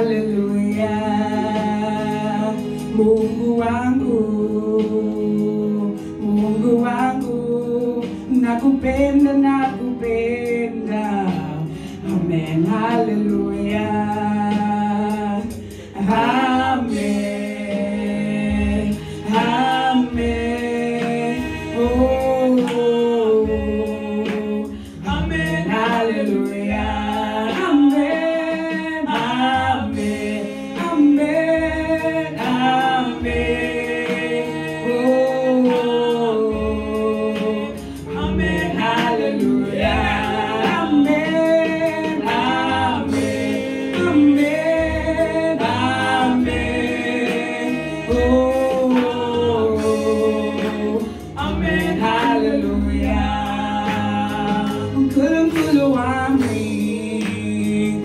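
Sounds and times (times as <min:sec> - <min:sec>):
women singing gospel song: 0:00.0 - 0:58.0.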